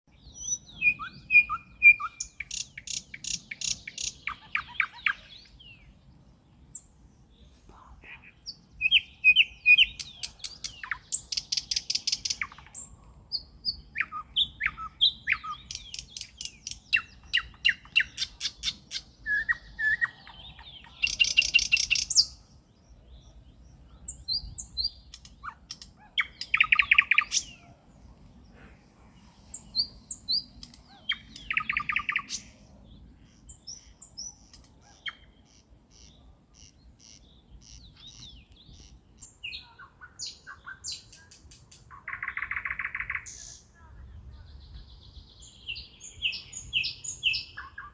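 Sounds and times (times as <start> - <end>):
nightingale singing: 0.1 - 28.5, 29.2 - 47.9.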